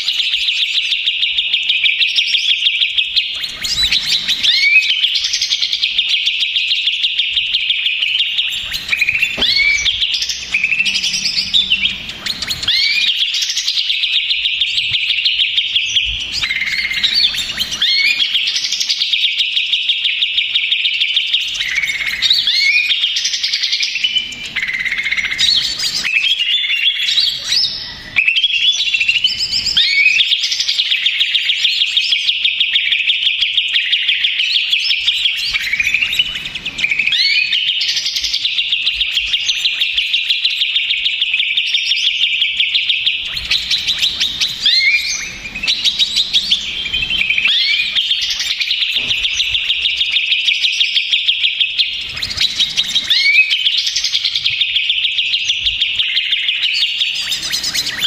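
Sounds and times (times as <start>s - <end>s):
bird singing rapid chattering song: 0.0s - 58.0s.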